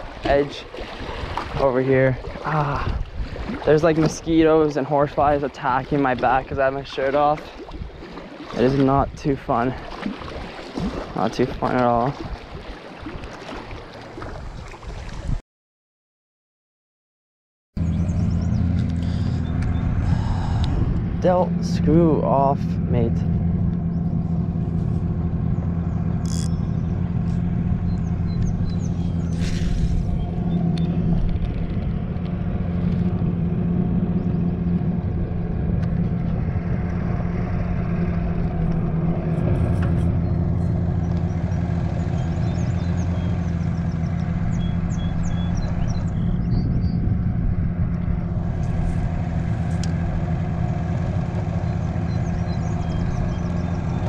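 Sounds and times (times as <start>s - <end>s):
outboard motor running: 0.0s - 15.4s, 17.8s - 54.0s.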